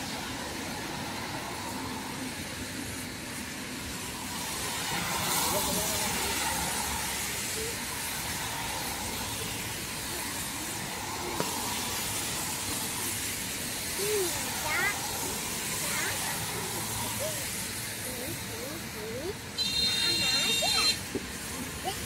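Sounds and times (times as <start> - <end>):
meat sizzling on a grill: 3.4 - 22.0.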